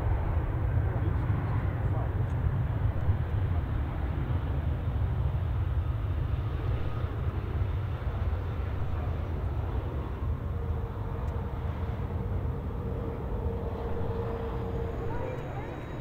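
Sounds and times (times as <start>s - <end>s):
faint steady whine: 0.0s - 16.0s
jet engines rumbling: 0.0s - 16.0s.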